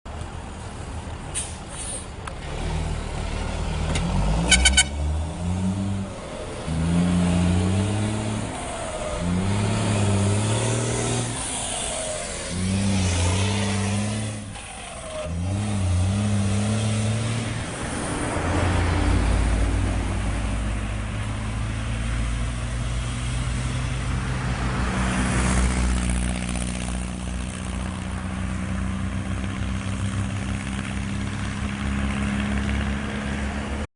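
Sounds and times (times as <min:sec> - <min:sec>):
diesel truck engine revving: 0:01.2 - 0:33.9.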